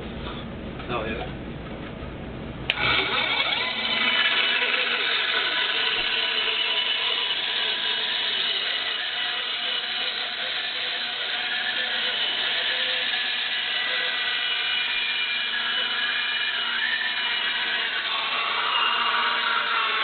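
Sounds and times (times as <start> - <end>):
power tool cutting wood: 2.7 - 20.0.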